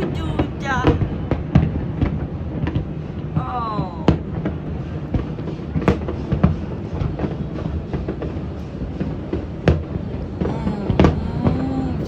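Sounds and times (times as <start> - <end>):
fireworks booms and bangs: 0.0 - 12.0.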